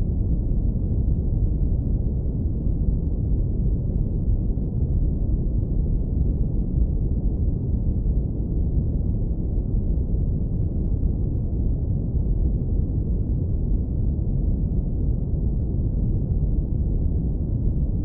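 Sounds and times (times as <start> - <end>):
deep brown noise rumble: 0.0 - 18.0.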